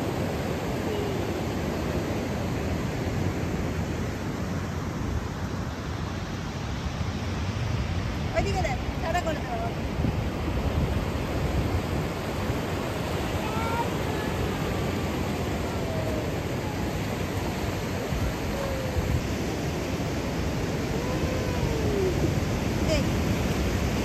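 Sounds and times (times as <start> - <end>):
surf breaking on a beach: 0.0 - 24.0.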